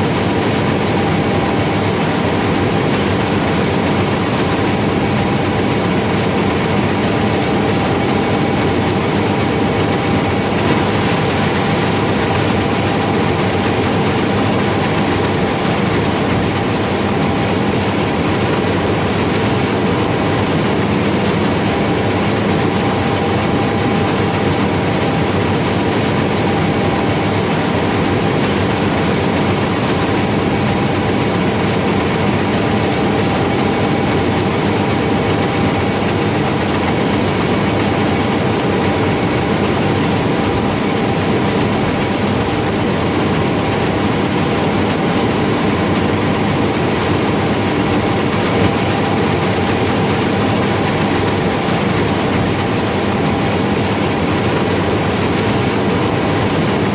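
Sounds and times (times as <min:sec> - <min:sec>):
combine harvester drone: 0:00.0 - 0:56.9.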